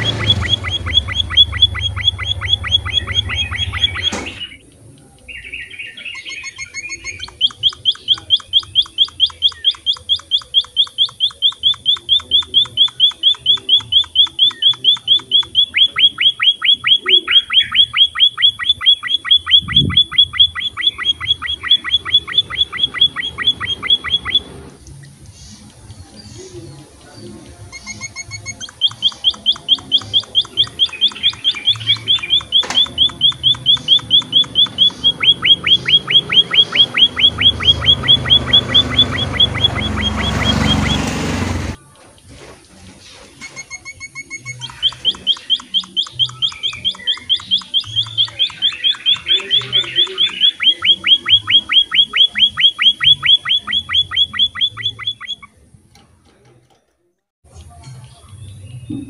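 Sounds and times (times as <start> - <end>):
finch chirping: 0.0 - 24.7, 25.4 - 41.8, 43.5 - 55.6.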